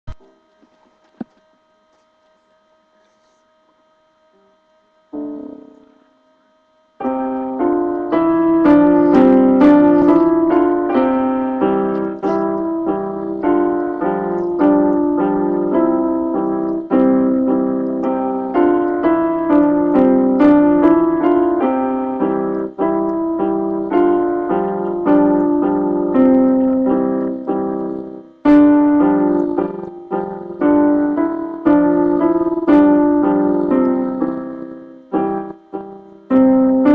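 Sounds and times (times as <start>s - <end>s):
electronic keyboard piano tune: 5.1s - 6.1s, 7.0s - 36.9s.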